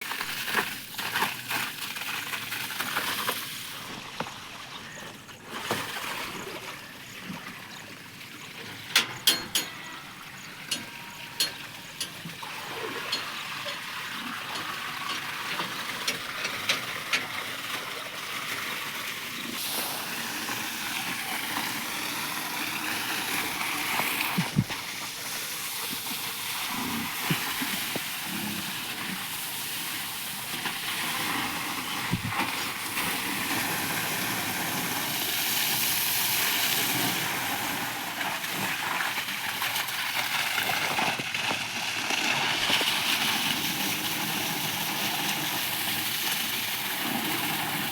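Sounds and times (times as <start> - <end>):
water spraying: 8.1 - 47.9.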